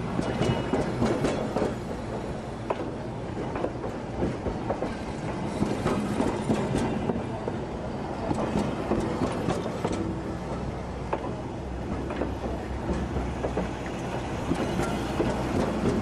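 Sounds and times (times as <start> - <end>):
train cars rolling on rails: 0.0 - 16.0.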